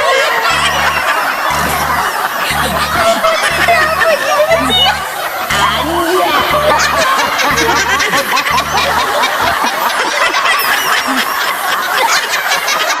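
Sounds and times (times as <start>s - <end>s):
low thumping beat: 0.0s - 11.9s
layered snickering laughter: 0.0s - 13.0s.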